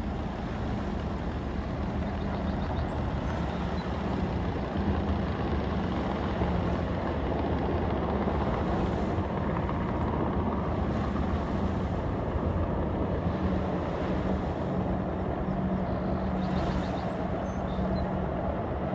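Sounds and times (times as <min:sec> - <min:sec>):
engine drone: 0:00.0 - 0:18.9.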